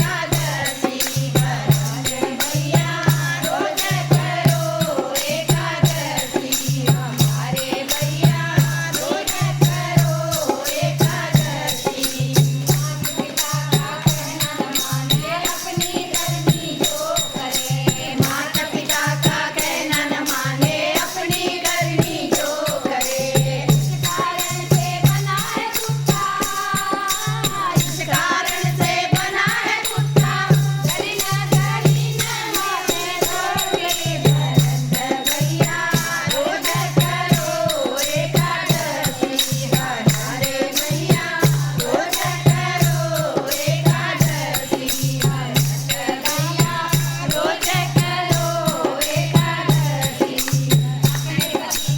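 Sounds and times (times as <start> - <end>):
group singing devotional song: 0.0 - 51.9
jingling rattling percussion: 0.0 - 51.9.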